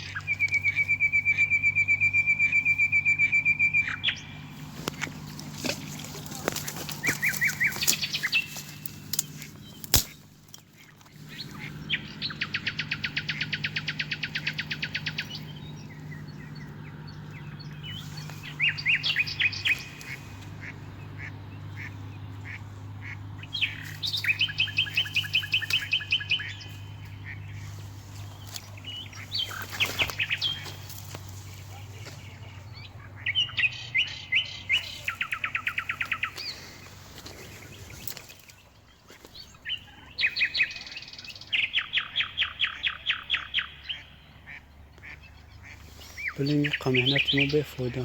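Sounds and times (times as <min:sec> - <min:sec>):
steady low hum: 0:00.0 - 0:40.9
ducks quacking: 0:03.8 - 0:38.5, 0:42.1 - 0:48.0.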